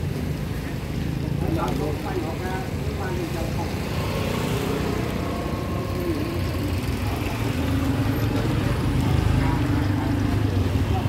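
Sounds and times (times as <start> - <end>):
vehicle engine rumbling: 0.0 - 11.0
faint voices: 0.1 - 11.0.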